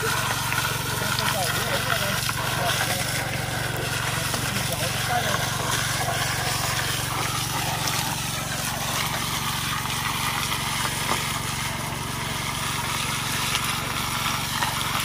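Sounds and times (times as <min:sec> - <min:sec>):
small engine running: 0:00.0 - 0:15.0
water jet blasting gravel: 0:00.0 - 0:15.0.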